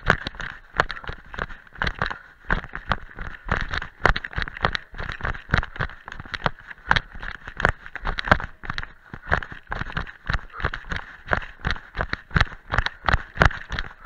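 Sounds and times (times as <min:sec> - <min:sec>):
footsteps on rocky dirt path: 0:00.0 - 0:14.0.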